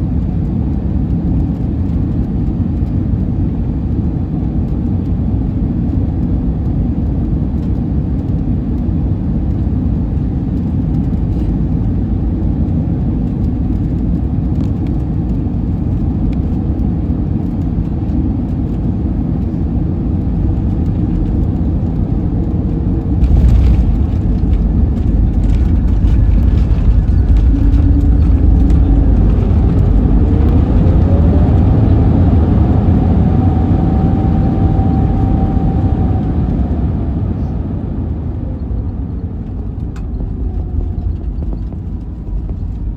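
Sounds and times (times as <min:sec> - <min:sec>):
engine and airflow rumble: 0:00.0 - 0:42.9
engine whine: 0:00.0 - 0:42.9
wheels rumbling on runway: 0:00.0 - 0:42.9.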